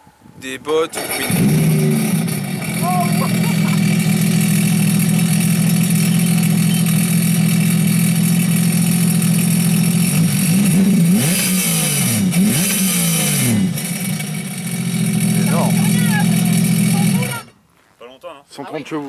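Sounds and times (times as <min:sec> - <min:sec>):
jet ski engine idling and revving: 0:01.0 - 0:17.5.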